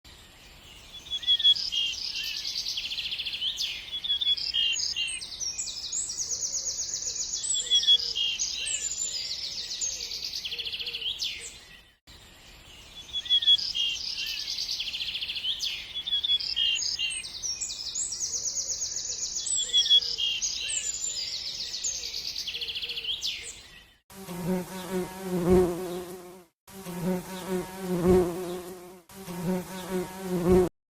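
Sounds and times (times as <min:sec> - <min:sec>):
songbirds chirping and trilling: 0:00.1 - 0:30.7.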